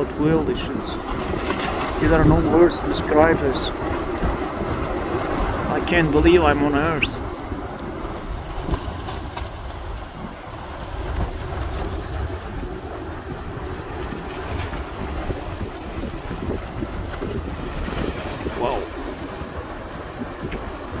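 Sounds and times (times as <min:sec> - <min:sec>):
deep rumbling of lava fountain: 0:00.0 - 0:21.0.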